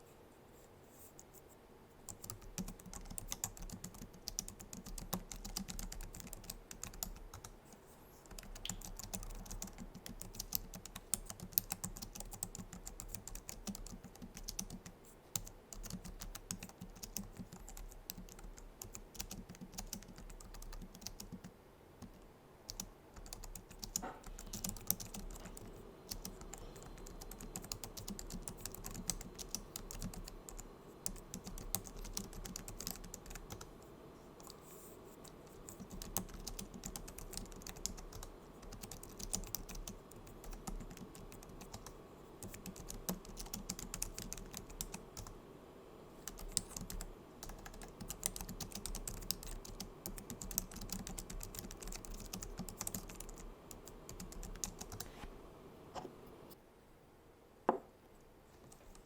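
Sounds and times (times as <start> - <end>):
keyboard typing: 2.1 - 7.6, 8.2 - 45.4, 46.2 - 55.1.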